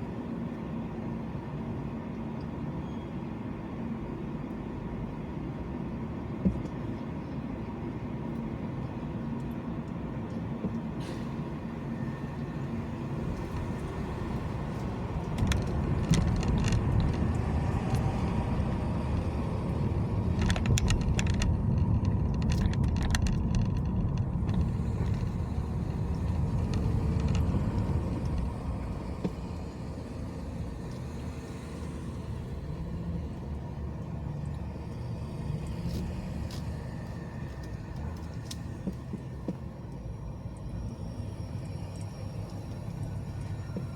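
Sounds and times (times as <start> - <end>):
tyres and engine rumble: 0.0 - 43.9.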